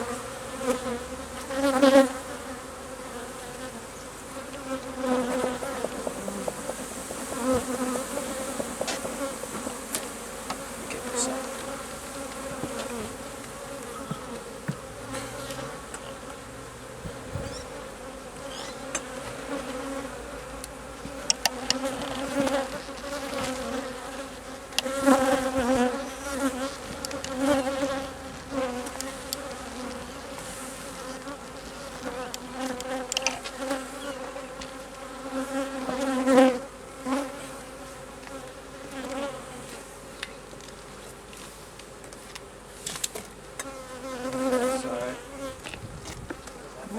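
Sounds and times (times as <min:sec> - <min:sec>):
honey bees buzzing: 0:00.0 - 0:46.9.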